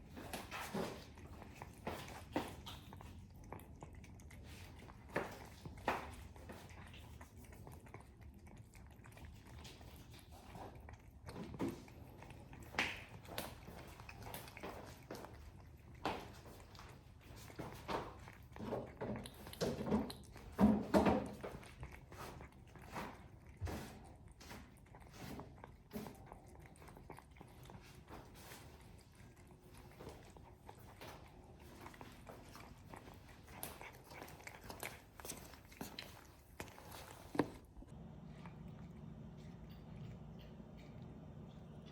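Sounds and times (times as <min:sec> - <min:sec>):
cat chewing food: 0:00.0 - 0:41.9.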